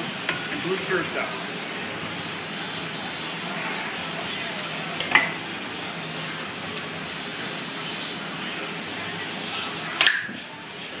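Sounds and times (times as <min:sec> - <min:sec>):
background chatter: 0:00.0 - 0:11.0.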